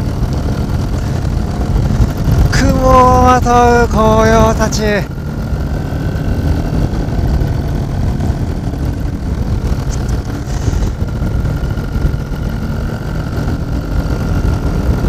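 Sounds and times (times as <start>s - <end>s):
paraglider engine and propeller: 0.0s - 15.0s.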